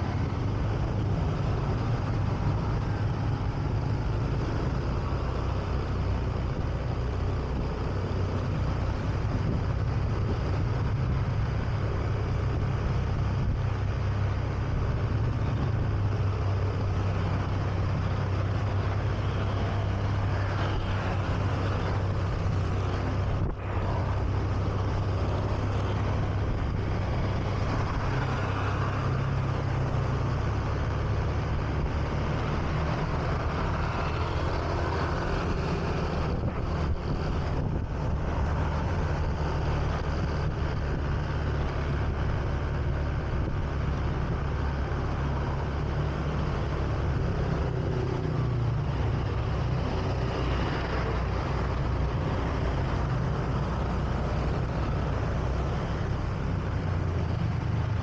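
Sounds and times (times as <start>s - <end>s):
road and wind rush: 0.0s - 58.0s.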